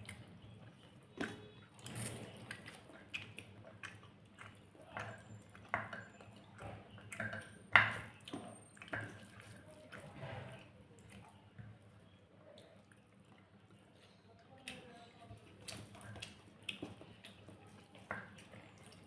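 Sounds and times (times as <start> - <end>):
chewing and mouth smacks: 0.0 - 11.7, 12.4 - 19.0.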